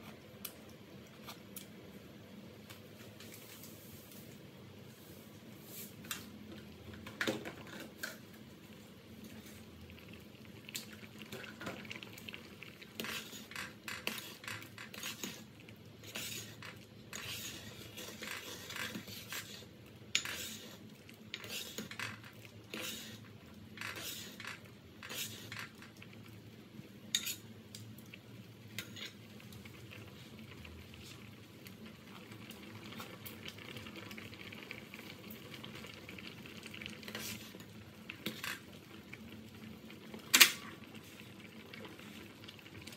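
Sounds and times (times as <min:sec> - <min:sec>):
pot simmering hiss: 0:00.0 - 0:42.9.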